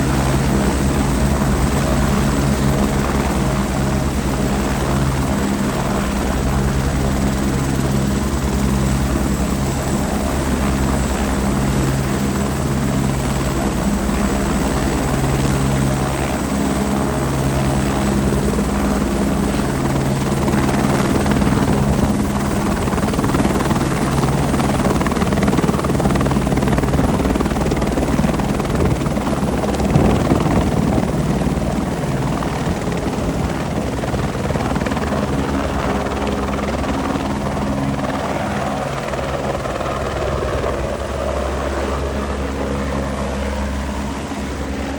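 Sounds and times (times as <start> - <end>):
helicopter rotor and turbine drone: 0.0 - 44.9.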